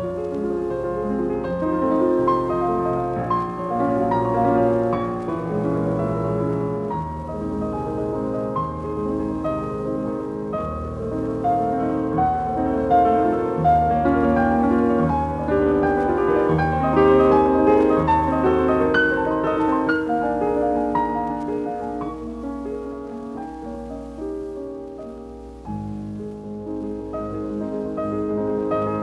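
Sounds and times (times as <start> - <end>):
piano music with held notes: 0.0 - 29.0.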